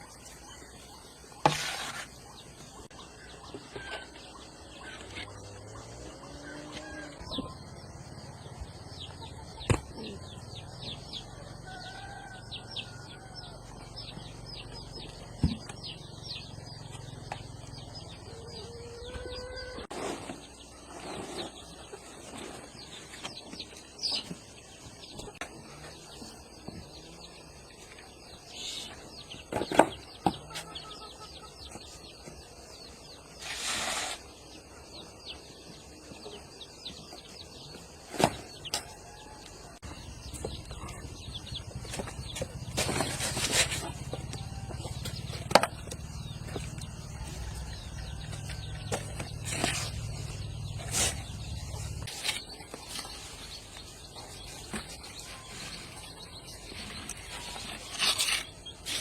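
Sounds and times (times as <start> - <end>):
chickens clucking: 0.0 - 32.6, 34.5 - 59.0
small birds chirping: 0.0 - 59.0.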